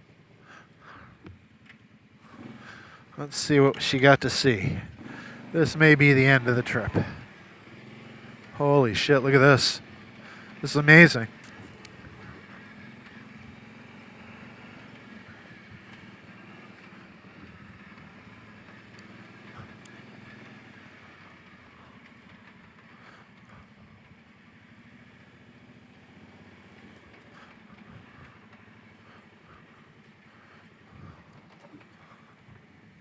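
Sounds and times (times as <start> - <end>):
faint atv engine running: 0.0 - 33.0.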